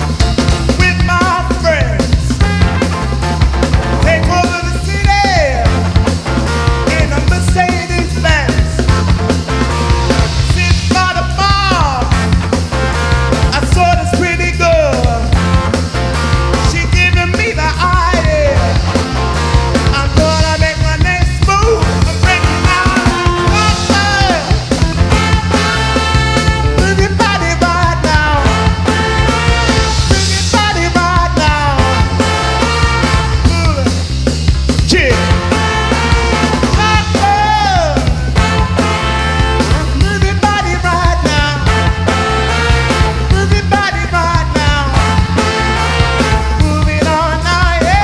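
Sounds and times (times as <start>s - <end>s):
live soul band playing: 0.0s - 48.0s
sliding lead melody: 0.0s - 48.0s.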